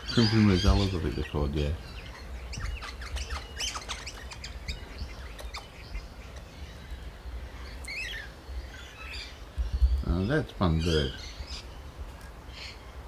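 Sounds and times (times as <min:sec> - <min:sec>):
birds squawking and chirping: 0:00.0 - 0:13.0.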